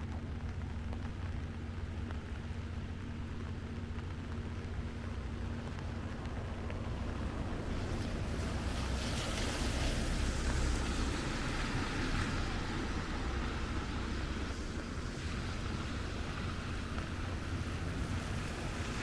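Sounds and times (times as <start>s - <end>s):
steady low rumble: 0.0s - 19.0s
tyre hiss on wet road: 2.0s - 19.0s.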